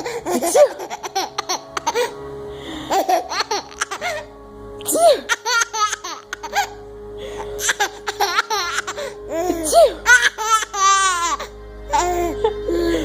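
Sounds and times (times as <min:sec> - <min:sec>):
baby giggling: 0:00.0 - 0:02.1, 0:02.9 - 0:04.2, 0:04.8 - 0:06.8, 0:07.6 - 0:12.9
background music: 0:00.0 - 0:13.0.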